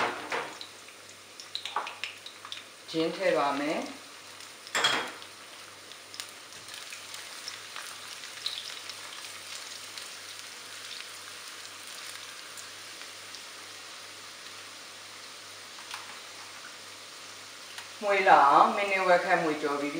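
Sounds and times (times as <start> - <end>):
garlic sizzling in hot oil: 0.0 - 19.9.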